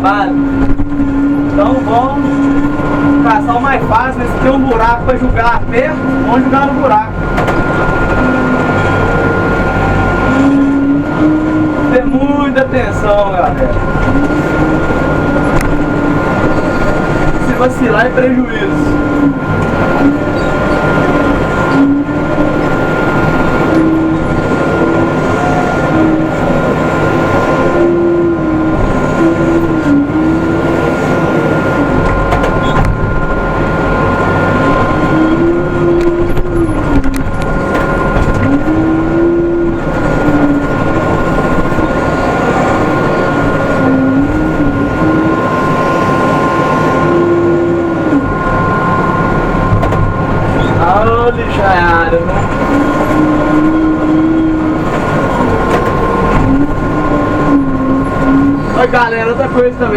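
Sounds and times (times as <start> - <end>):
diesel engine under load: 0.0 - 59.9
steady high whine: 0.0 - 59.9.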